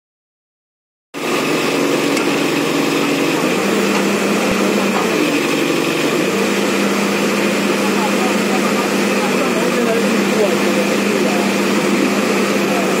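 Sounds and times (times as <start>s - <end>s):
diesel engine running: 1.2s - 13.0s.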